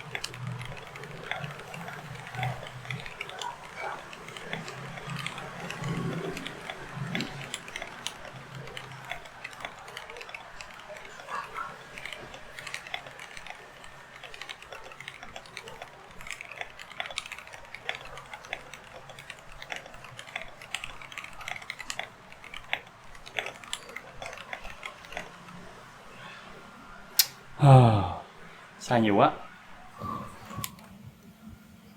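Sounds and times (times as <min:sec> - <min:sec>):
mechanical keyboard typing: 0:00.0 - 0:25.8.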